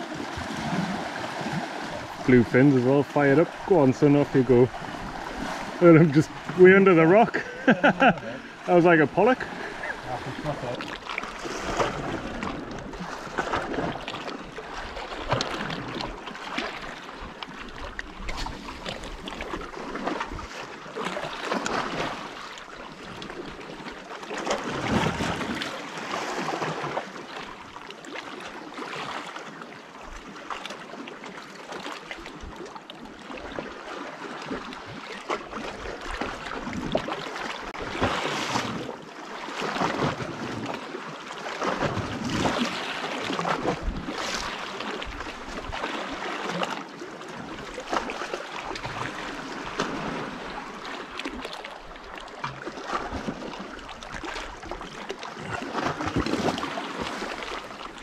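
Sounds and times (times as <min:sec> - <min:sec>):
sea water splashing against rocks: 0:00.0 - 0:58.0.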